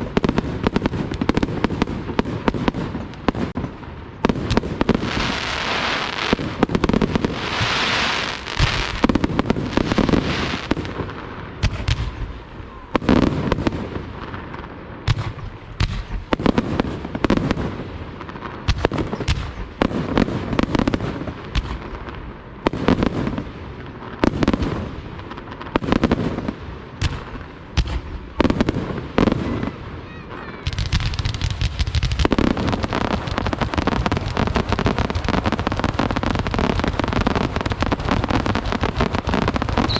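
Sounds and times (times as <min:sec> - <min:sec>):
fireworks bursting: 0:00.0 - 0:39.9
fireworks crackling: 0:00.0 - 0:39.9.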